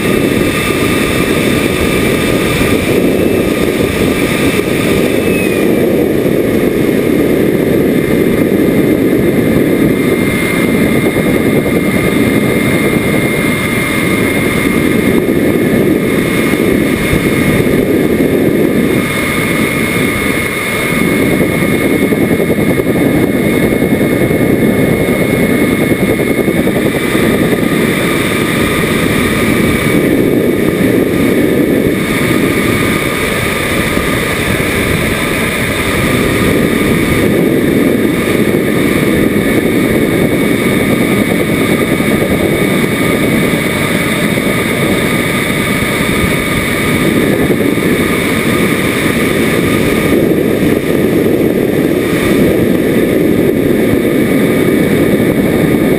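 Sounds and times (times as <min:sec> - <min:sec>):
model jet engine whine: 0:00.0 - 0:55.9
rush of air: 0:00.0 - 0:55.9.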